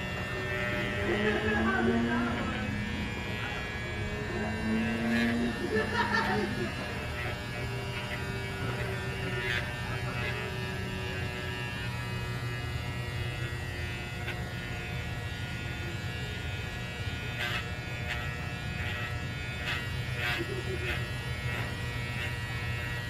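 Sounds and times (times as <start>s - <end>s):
electric clippers buzzing: 0.0s - 23.0s.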